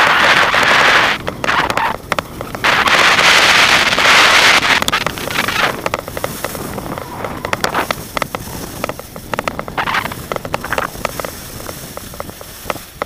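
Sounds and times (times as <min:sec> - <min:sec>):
skis scraping over packed snow: 0:00.0 - 0:13.0.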